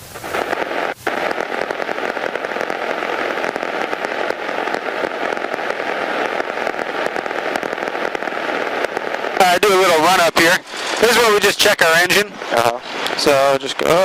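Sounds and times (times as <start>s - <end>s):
faint steady tone: 0.0s - 14.0s
radio static hiss: 0.0s - 14.0s.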